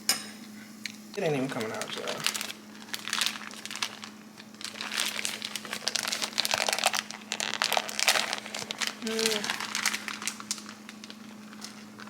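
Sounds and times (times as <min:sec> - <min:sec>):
sugar package crinkling: 0:01.2 - 0:12.0.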